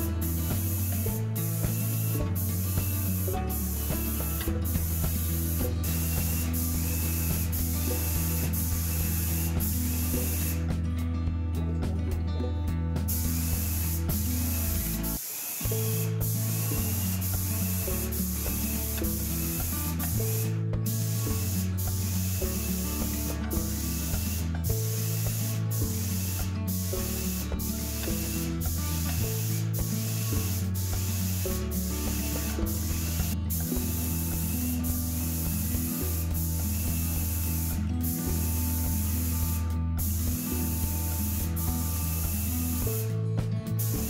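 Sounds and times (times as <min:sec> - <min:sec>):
paint sprayer hissing: 0:00.0 - 0:10.8, 0:13.0 - 0:44.0
music with stepping bass line: 0:00.0 - 0:44.0.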